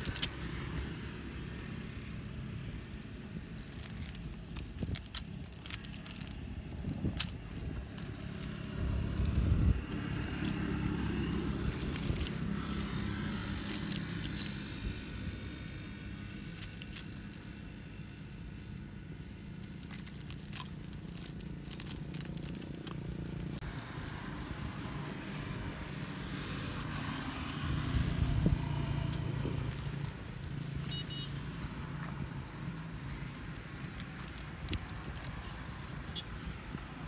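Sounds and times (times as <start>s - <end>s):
shellfish clicking and rattling: 0.0s - 23.6s, 26.7s - 37.0s.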